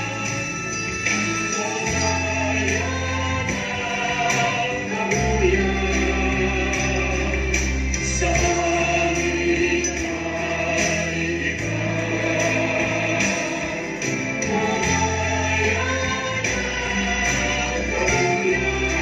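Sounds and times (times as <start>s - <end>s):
choir singing worship song: 0.0s - 19.0s.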